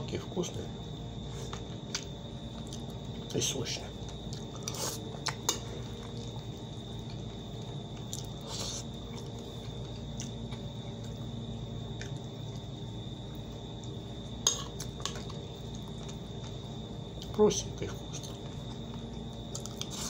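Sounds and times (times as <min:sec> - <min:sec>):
man chewing wetly: 0:01.4 - 0:03.3, 0:04.0 - 0:17.4, 0:18.1 - 0:20.0.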